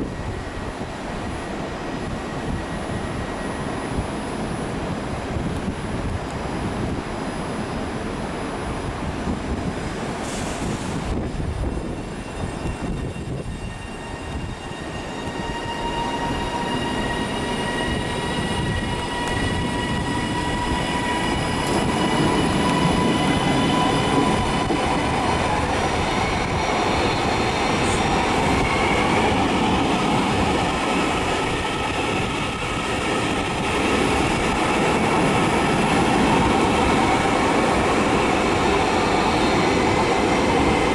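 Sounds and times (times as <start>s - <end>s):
train rumbling: 0.0s - 40.9s.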